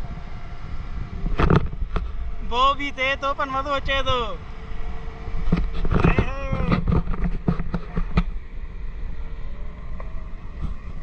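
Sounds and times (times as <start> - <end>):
motorboat engine running: 0.0 - 11.0
wind rumble on microphone: 0.0 - 11.0.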